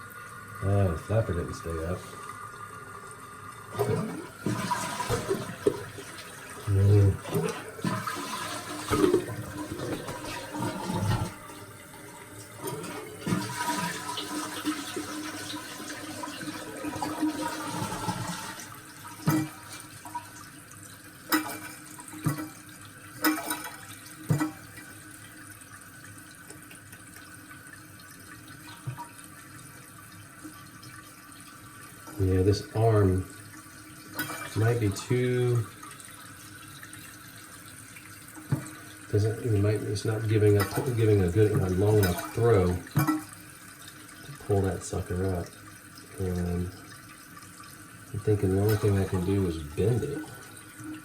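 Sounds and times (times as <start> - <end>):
toilet flushing: 0.0 - 51.0
toilet tank refilling hiss: 0.0 - 51.0.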